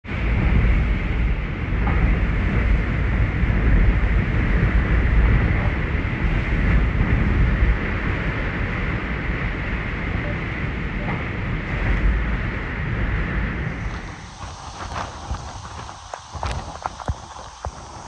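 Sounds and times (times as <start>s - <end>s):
driving rain: 0.0s - 18.0s
strong wind blowing: 0.0s - 18.0s
wind buffeting microphone: 0.0s - 18.0s.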